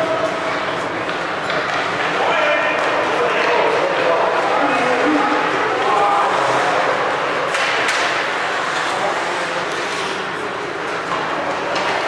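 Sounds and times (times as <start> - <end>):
crowd noise: 0.0 - 12.0
faint voices: 0.0 - 12.0.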